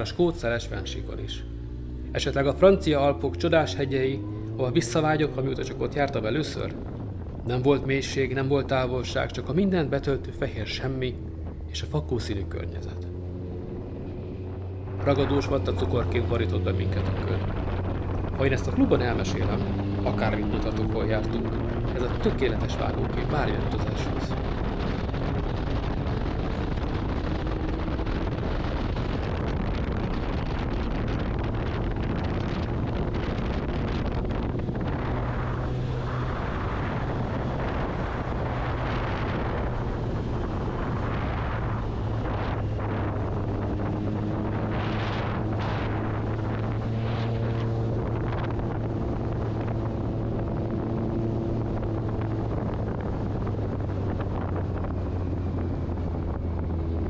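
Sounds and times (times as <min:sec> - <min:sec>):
wind buffeting the microphone: 0:03.5 - 0:57.0.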